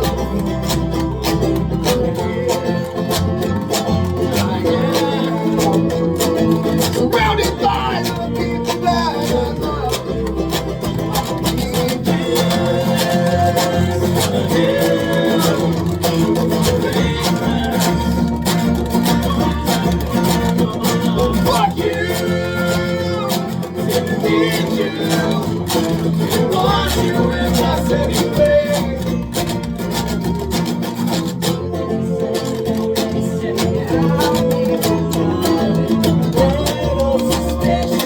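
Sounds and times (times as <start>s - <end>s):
live band with guitars: 0.0s - 38.0s.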